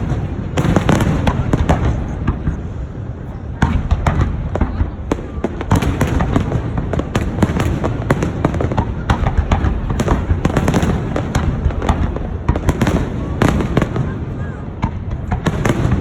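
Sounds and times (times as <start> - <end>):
fireworks cracks and bangs: 0.0 - 16.0.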